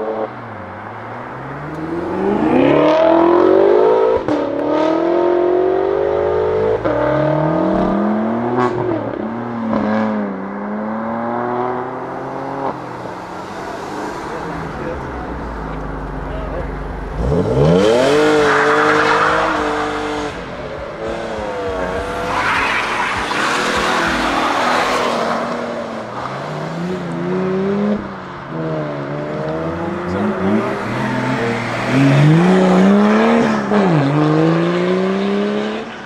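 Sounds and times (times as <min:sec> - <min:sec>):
car engine revving and shifting: 0:00.0 - 0:36.0.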